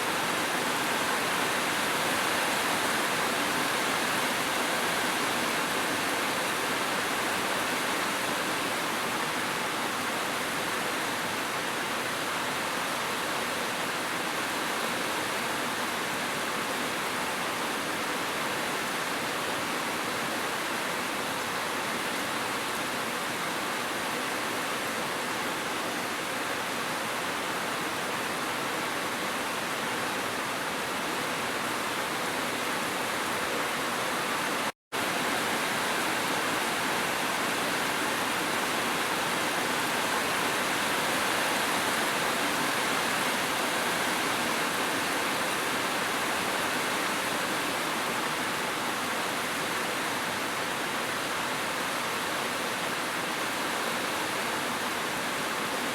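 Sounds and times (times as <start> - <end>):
gentle rain: 0.0 - 55.9.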